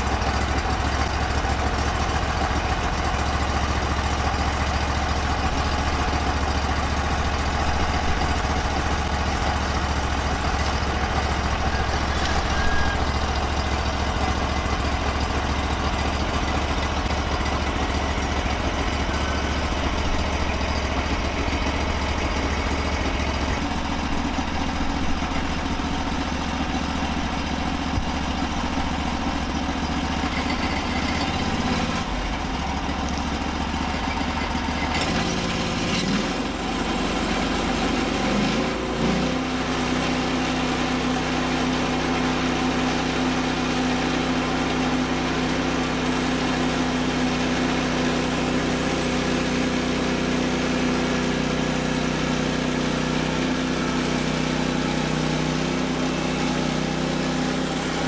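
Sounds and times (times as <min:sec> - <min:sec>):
gas engine idling and revving: 0:00.0 - 0:58.0.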